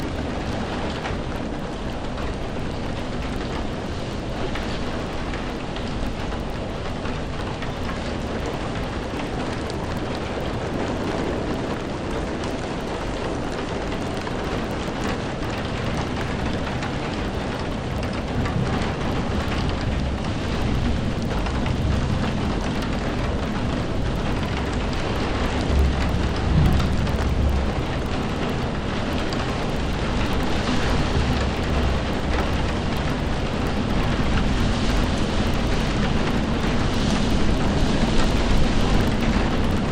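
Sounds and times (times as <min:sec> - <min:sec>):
low thunder rumbling: 0:00.0 - 0:39.9
steady rainfall: 0:00.0 - 0:39.9.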